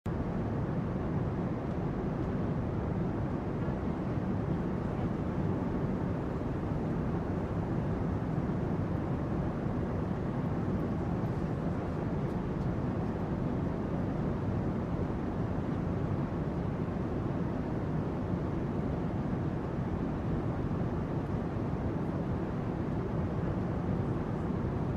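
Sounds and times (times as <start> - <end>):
airplane cabin rumble with hiss: 0.1 - 24.9.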